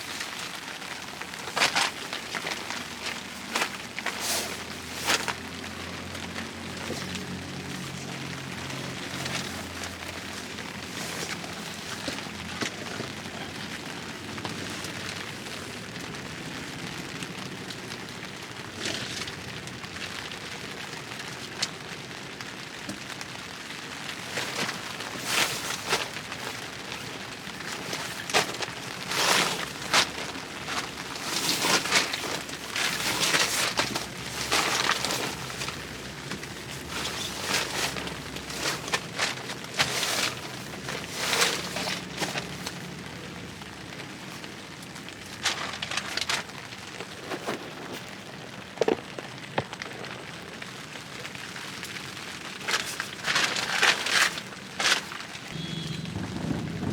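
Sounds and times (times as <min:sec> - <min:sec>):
rain falling: 0:00.0 - 0:56.9
raindrops splashing: 0:00.0 - 0:56.9.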